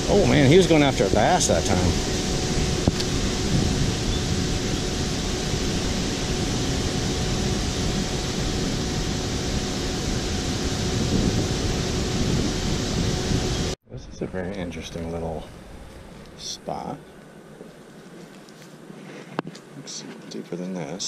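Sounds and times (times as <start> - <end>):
faint constant hum: 0.0 - 21.0
steady rushing fan noise: 0.0 - 21.0.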